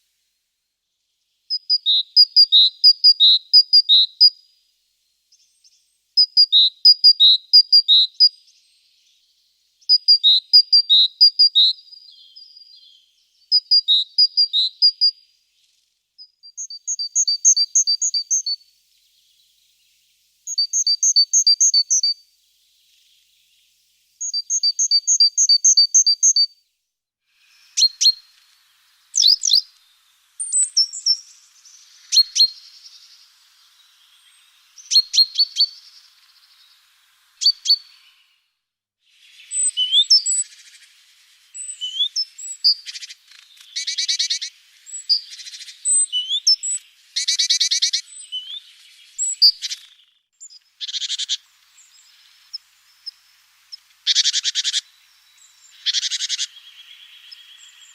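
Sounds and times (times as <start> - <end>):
small songbirds chirping: 0.0 - 57.9.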